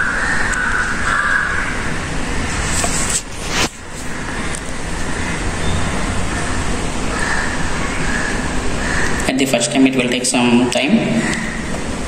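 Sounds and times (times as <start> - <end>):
rushing background noise: 0.0 - 12.0.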